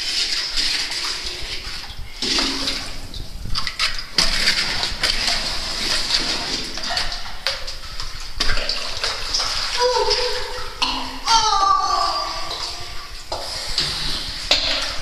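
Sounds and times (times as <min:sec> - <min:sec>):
rushing water: 0:00.0 - 0:15.0
wading splashes in water: 0:00.0 - 0:15.0.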